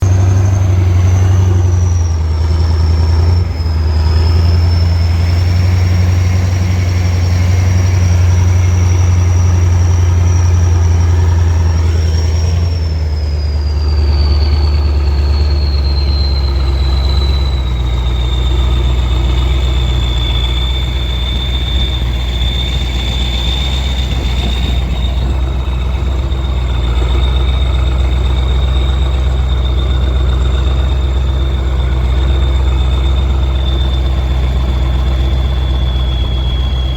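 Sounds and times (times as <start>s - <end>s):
diesel engine rumbling: 0.0s - 36.9s
turbocharger whistle: 0.0s - 36.9s.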